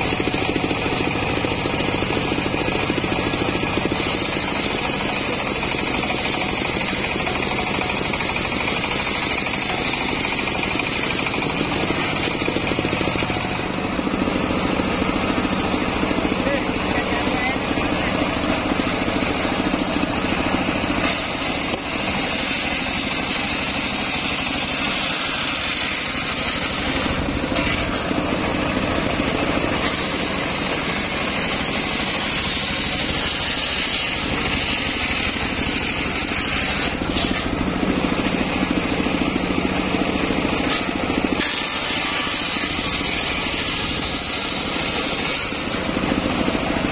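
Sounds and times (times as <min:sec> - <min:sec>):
circular saw cutting log: 0:00.0 - 0:46.9.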